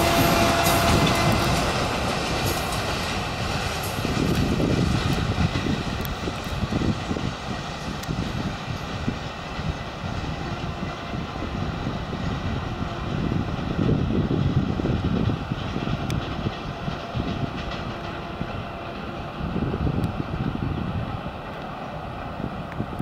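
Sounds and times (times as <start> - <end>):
train wagons rumbling over rails: 0.0 - 23.0.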